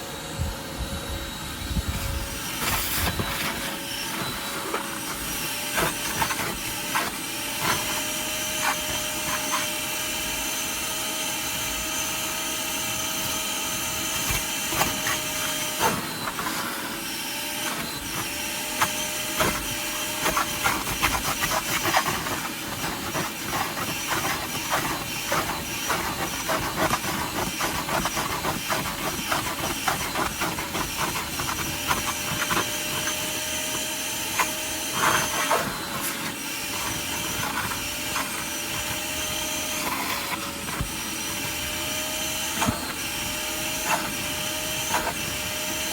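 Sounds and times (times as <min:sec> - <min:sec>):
vacuum motor running: 0:00.0 - 0:45.9.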